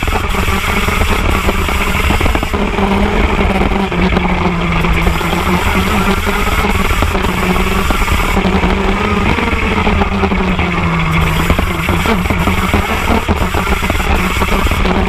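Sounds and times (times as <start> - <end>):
kart engine running: 0.0 - 15.0.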